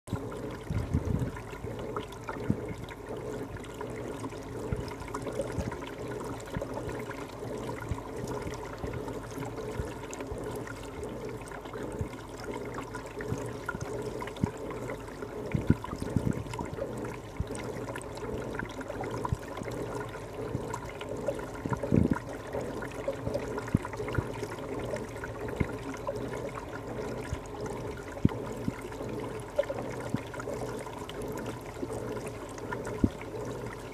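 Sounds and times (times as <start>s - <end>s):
faint steady hum: 0.0s - 33.9s
water trickling and gurgling: 0.1s - 33.9s.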